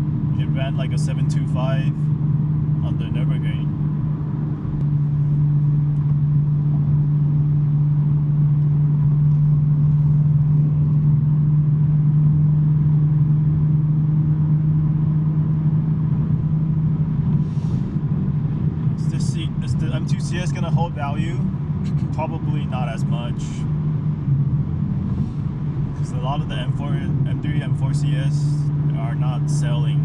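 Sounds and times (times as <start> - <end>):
car exhaust drone: 0.0 - 30.0
road noise: 0.0 - 30.0.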